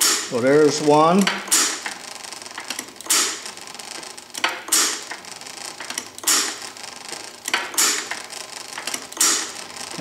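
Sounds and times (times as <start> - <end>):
engine flywheel clicking and creaking: 0.0 - 10.0.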